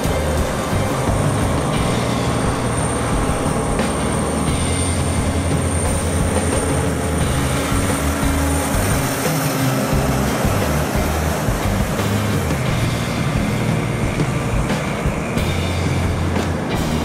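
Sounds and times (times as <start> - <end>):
truck diesel engine passing: 0.0 - 17.0.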